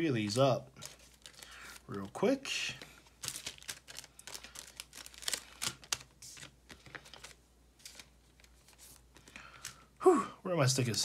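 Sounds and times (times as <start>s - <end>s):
cards and plastic sleeves rustling: 0.1s - 10.0s, 10.7s - 11.0s.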